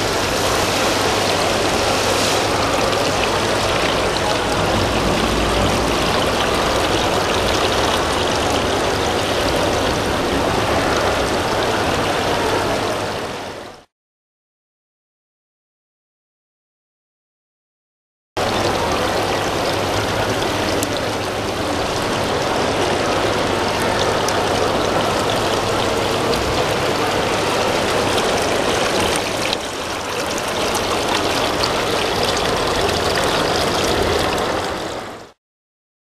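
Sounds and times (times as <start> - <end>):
waterfall splashing into pond: 0.0 - 13.9, 18.4 - 35.4.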